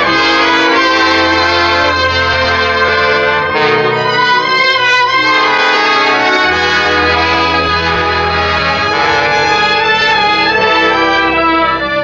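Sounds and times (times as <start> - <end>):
low bass line: 0.0 - 12.0
orchestral theme music with brass: 0.0 - 12.0.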